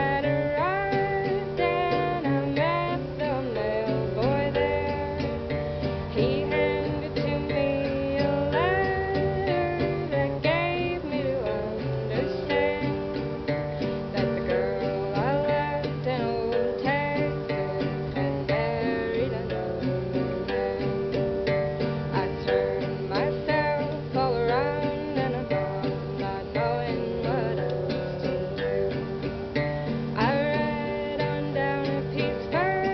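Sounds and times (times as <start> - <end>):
acoustic guitar strummed: 0.0 - 32.9
person singing: 0.0 - 32.9.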